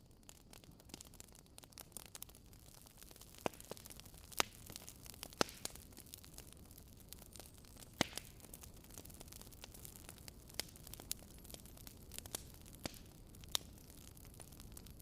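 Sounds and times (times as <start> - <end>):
wood fire crackling: 0.0 - 15.0
fire snapping: 0.2 - 15.0.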